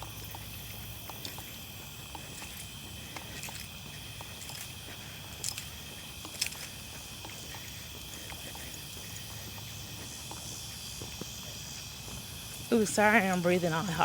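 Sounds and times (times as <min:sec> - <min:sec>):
faint ticking steps: 0:00.0 - 0:14.0
insects buzzing: 0:00.0 - 0:14.0.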